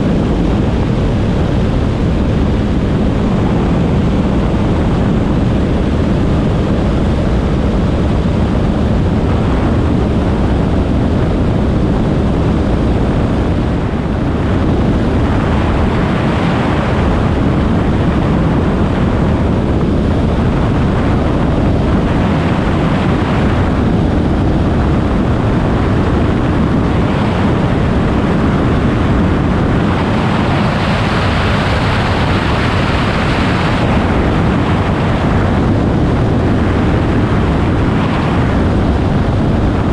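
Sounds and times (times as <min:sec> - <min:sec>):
airflow rushing over glider: 0:00.0 - 0:39.9
wind buffeting microphone: 0:00.0 - 0:39.9.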